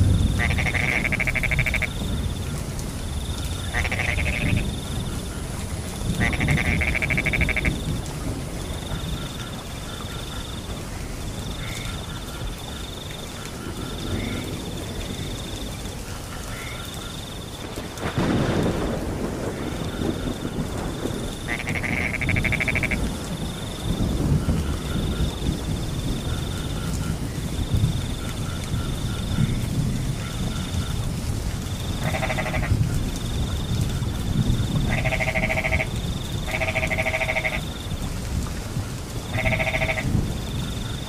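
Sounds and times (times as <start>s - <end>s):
rumbling thunder: 0.0s - 9.8s, 13.5s - 41.0s
crickets trilling: 0.0s - 41.0s
frogs calling: 0.0s - 41.0s
rain: 0.0s - 41.0s.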